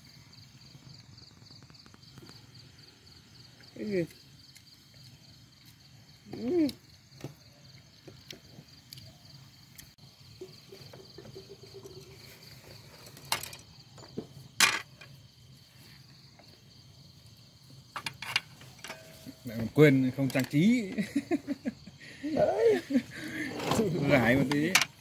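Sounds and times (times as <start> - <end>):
night insects chirring: 0.0 - 25.0.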